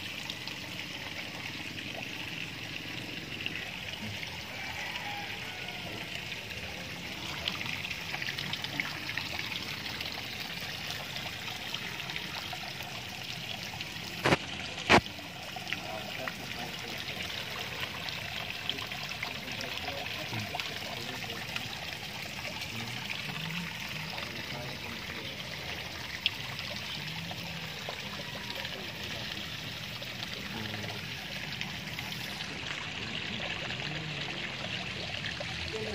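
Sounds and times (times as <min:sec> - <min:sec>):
water pouring into pond: 0:00.0 - 0:35.9.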